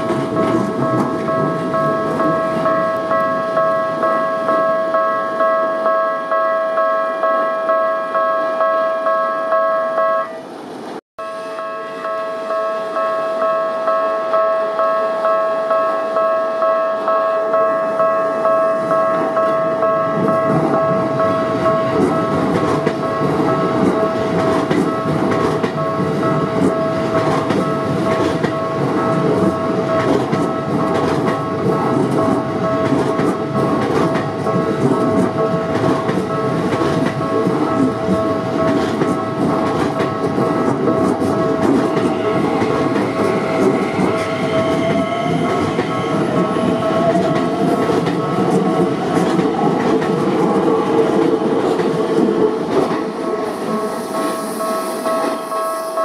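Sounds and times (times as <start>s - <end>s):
train wheels rumbling on rails: 0.0s - 6.0s, 11.9s - 56.0s
steady high tone: 0.0s - 49.8s, 53.1s - 56.0s.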